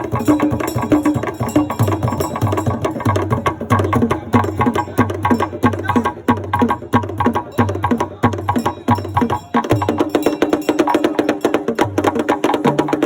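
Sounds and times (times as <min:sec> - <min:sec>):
fast drumming: 0:00.0 - 0:13.0.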